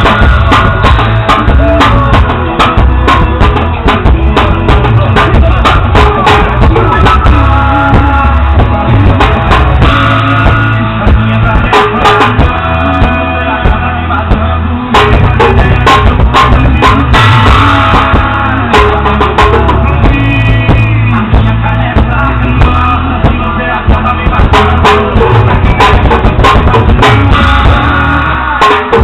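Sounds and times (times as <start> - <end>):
drum and cymbal strikes: 0.0 - 29.0
rock song with guitar and singing: 0.0 - 29.0.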